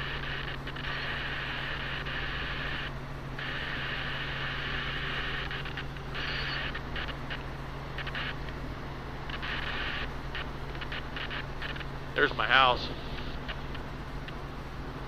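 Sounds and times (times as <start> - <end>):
helicopter cabin drone: 0.0 - 15.0.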